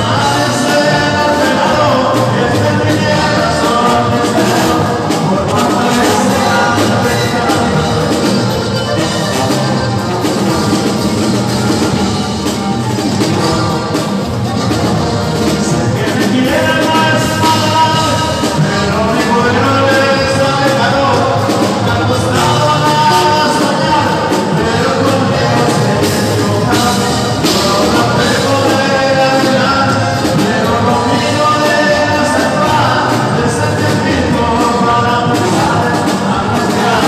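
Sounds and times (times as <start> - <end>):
live band playing: 0.0 - 37.0
person singing: 0.0 - 37.0.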